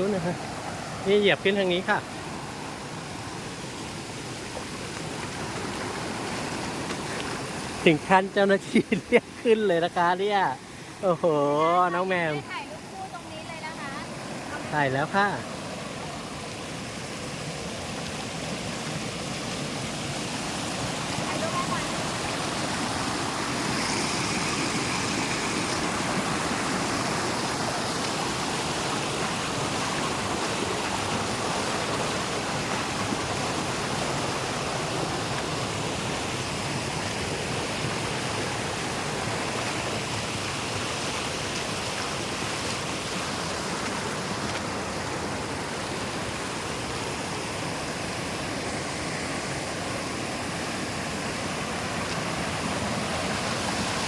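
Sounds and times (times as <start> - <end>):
waterfall rushing and splashing: 0.0 - 54.0.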